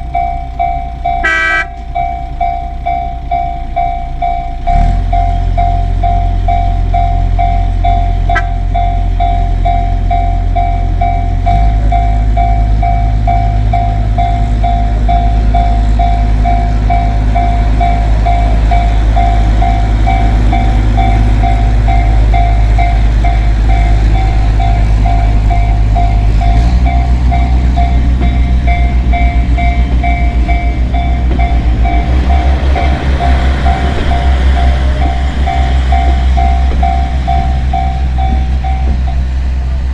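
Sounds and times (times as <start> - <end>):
diesel railcar engine droning: 0.0 - 39.9
level-crossing bell dinging: 0.0 - 39.9
train wheels clattering on rails: 0.0 - 39.9.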